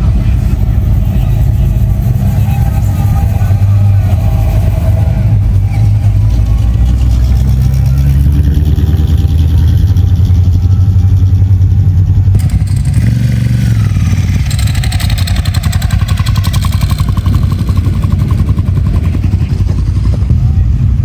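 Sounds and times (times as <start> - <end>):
car engines rumbling: 0.0 - 21.0
engine pulsing rapidly: 0.0 - 21.0.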